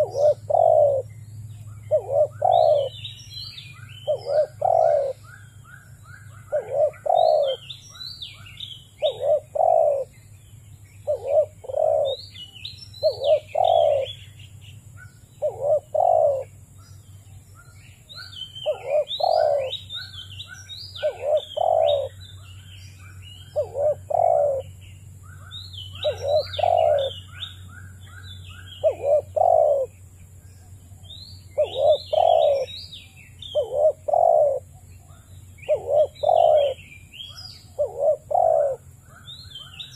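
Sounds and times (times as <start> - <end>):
dove cooing: 0.0 - 1.1, 1.8 - 10.2, 11.0 - 14.3, 15.0 - 16.6, 17.3 - 30.0, 30.9 - 32.8, 33.4 - 39.9
small birds chirping and trilling: 0.0 - 39.9.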